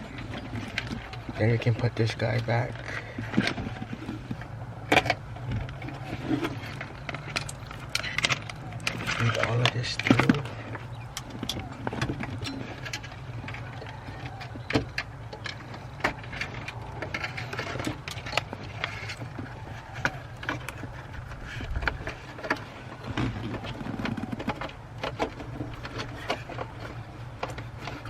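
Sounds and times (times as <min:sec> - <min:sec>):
clicks and rattling of plastic parts: 0:00.0 - 0:28.0.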